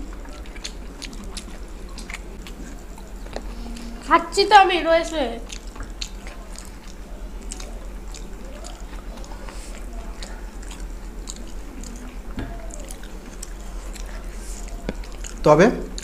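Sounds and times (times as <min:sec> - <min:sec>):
wet chewing and mouth smacking: 0:00.0 - 0:04.0, 0:05.0 - 0:16.0.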